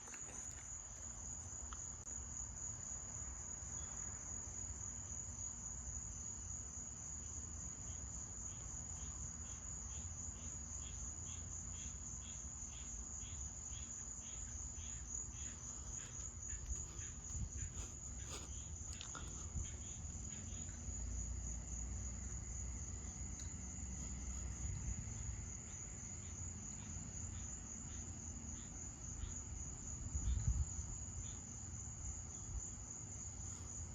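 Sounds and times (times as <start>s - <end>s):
crickets trilling: 0.0s - 33.9s
slower insect chirps: 0.0s - 33.9s.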